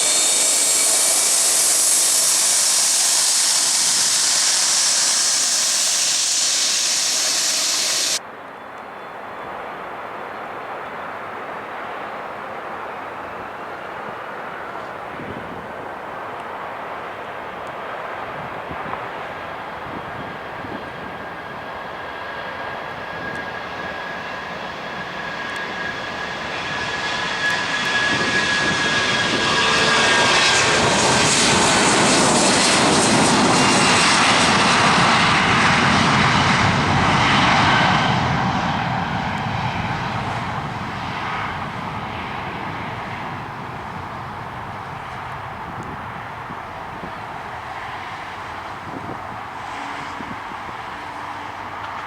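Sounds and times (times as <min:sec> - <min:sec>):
jet aircraft passing by: 0:00.0 - 0:08.4, 0:09.4 - 0:52.0.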